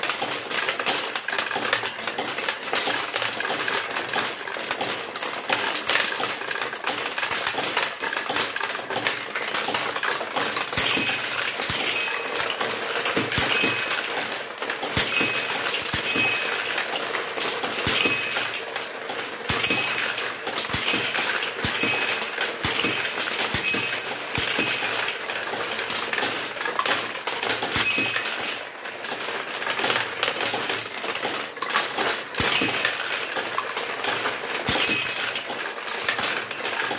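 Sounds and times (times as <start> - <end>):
steel balls clattering: 0.0 - 36.9.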